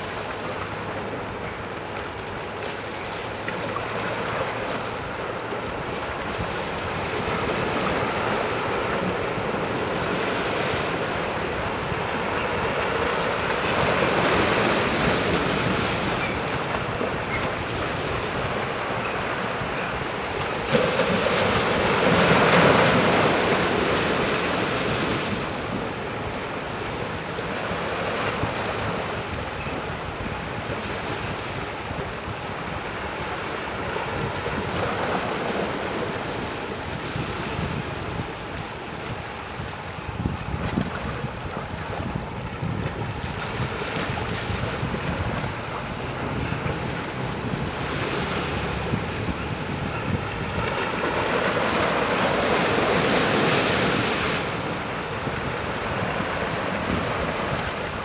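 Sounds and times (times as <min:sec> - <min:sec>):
water noise: 0:00.0 - 0:58.0
wind rushing over microphone: 0:04.8 - 0:58.0.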